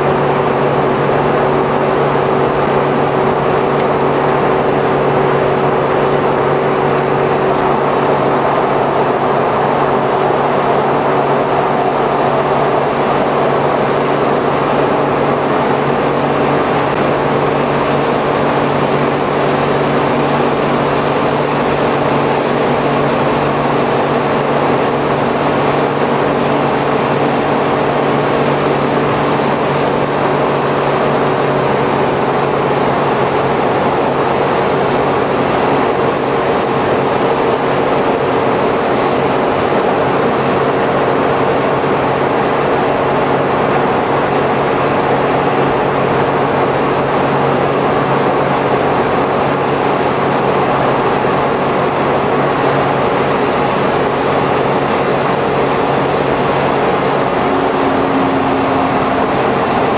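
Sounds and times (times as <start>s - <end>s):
engine and drivetrain hum: 0.0s - 59.9s.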